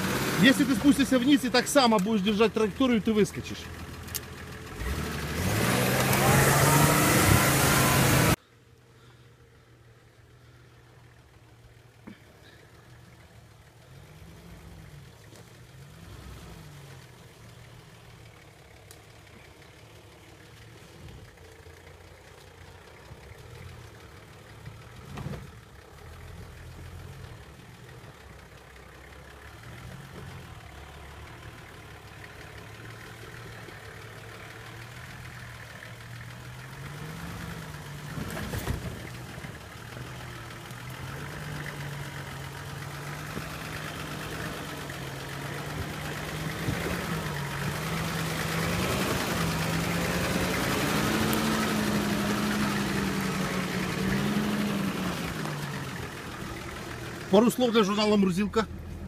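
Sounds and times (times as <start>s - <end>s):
suv engine climbing: 0.0s - 59.0s.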